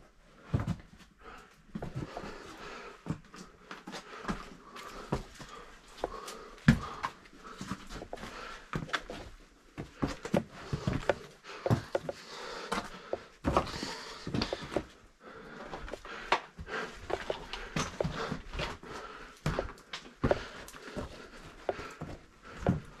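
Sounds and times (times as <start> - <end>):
person breathing: 0.5 - 23.0.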